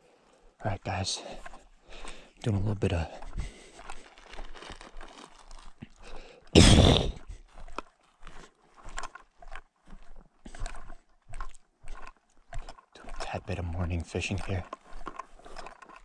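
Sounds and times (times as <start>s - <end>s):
footsteps crunching in dry grass: 0.8s - 16.0s.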